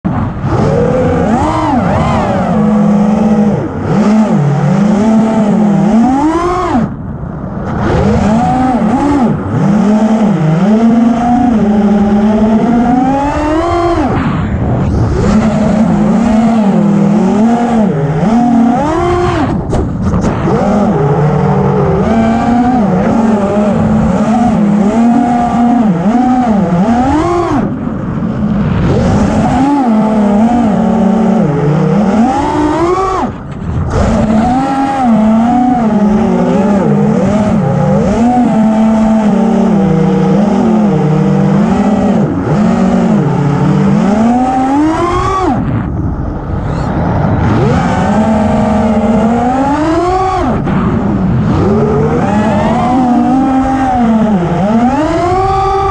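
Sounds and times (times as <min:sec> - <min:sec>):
quadcopter motors whining: 0:00.5 - 0:07.0, 0:07.8 - 0:14.2, 0:15.0 - 0:27.8, 0:28.8 - 0:50.7, 0:51.5 - 0:55.9.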